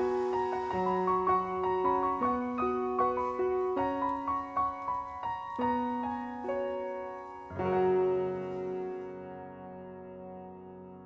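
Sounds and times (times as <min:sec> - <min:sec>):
gentle slow piano melody: 0:00.0 - 0:11.0.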